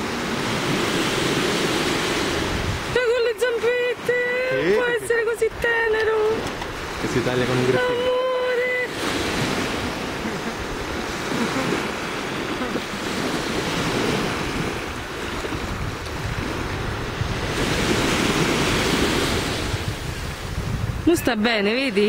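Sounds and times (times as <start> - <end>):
sea wash: 0.0 - 22.0
wind blowing across microphone: 0.0 - 22.0.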